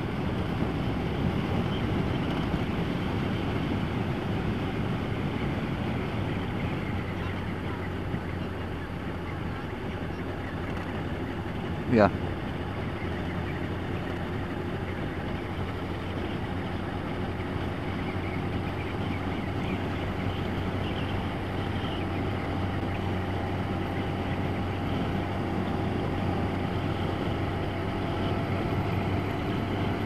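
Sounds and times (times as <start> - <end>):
motorcycle engine cruising: 0.0 - 30.0
wind and road noise: 0.0 - 30.0.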